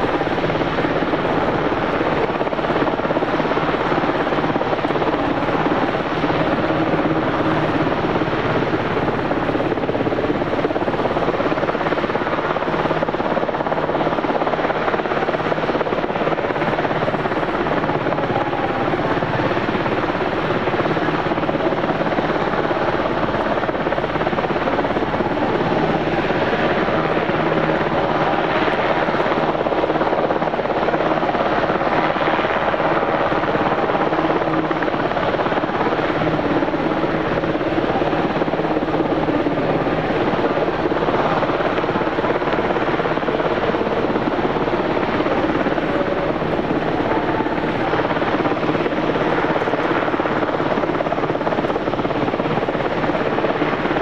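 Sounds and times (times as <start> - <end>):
helicopter rotors and engines: 0.0 - 54.0.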